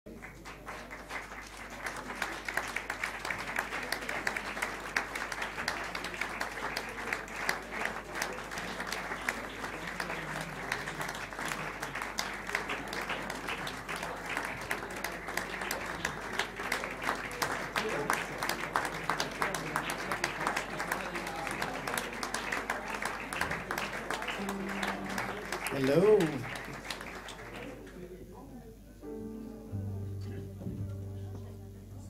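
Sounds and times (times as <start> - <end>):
audience applauding: 0.1 - 28.2.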